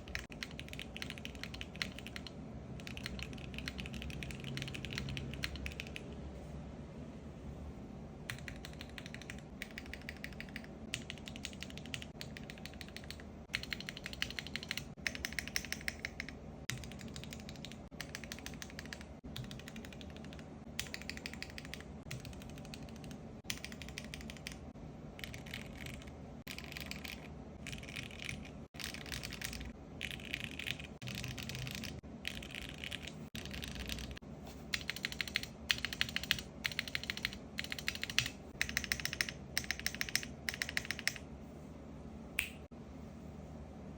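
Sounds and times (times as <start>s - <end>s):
mechanical keyboard typing: 0.0s - 6.2s, 8.3s - 41.2s.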